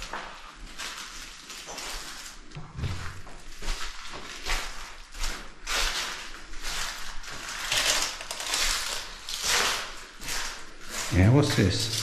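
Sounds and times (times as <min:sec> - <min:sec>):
footsteps on gritty floor: 0:00.0 - 0:12.0.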